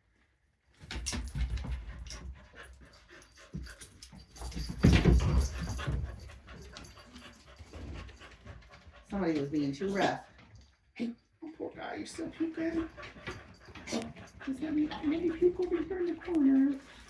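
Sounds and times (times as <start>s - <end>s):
dogs scuffling and panting: 0.8s - 10.8s, 12.0s - 17.0s.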